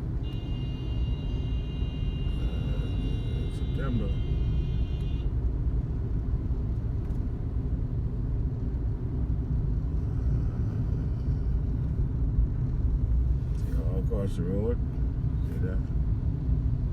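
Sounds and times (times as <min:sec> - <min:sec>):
car driving rumble: 0:00.0 - 0:16.9.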